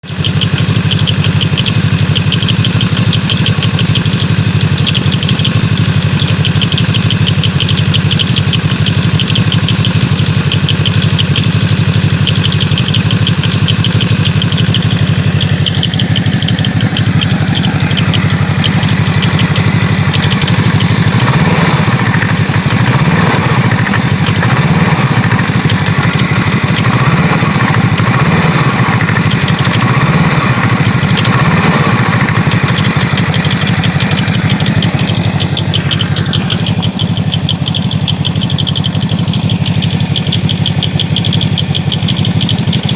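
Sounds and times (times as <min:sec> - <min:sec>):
engine idling: 0:00.0 - 0:42.9
rapid clutch clicking: 0:00.0 - 0:42.9.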